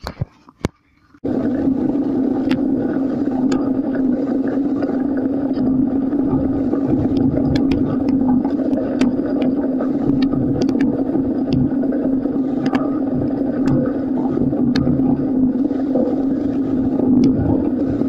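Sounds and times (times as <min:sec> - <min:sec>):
bicycle tyre roar: 0:01.2 - 0:18.0
wind on microphone: 0:01.2 - 0:18.0.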